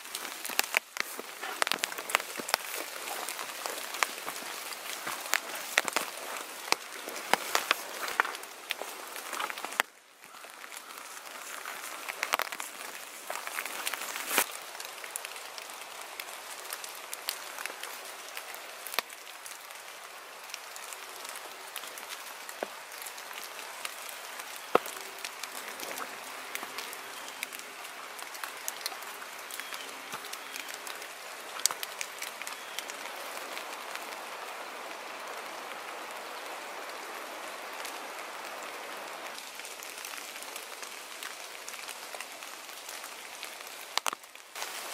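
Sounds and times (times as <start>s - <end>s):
footsteps on wet leaves: 0.0s - 35.0s, 39.2s - 44.9s
rain pattering on forest floor: 0.0s - 44.9s.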